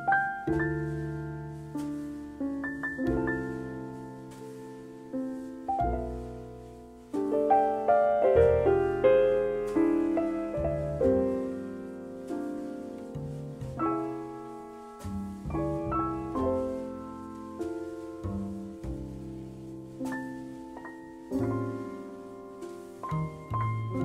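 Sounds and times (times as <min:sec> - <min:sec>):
slow jazz piano: 0:00.0 - 0:24.0.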